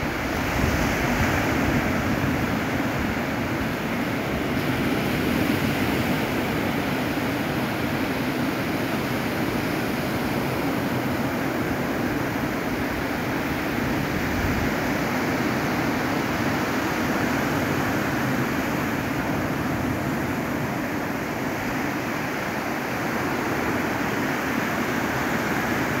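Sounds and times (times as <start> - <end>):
surf washing up a sandy beach: 0.0 - 26.0.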